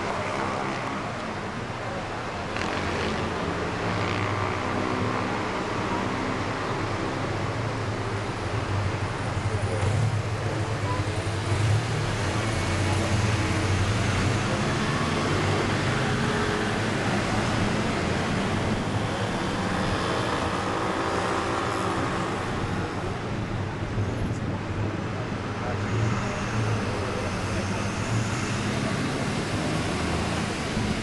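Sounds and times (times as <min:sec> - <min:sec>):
bus engine hum: 0:00.0 - 0:31.0
road noise: 0:00.0 - 0:31.0.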